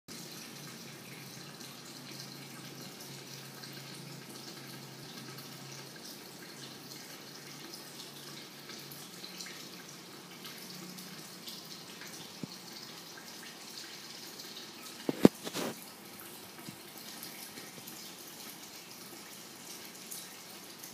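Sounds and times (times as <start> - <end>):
water trickling into tank: 0.1 - 20.9.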